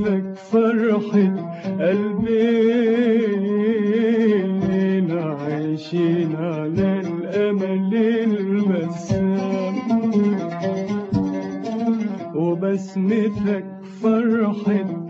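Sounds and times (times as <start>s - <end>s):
man singing melismatic melody: 0.0s - 15.0s.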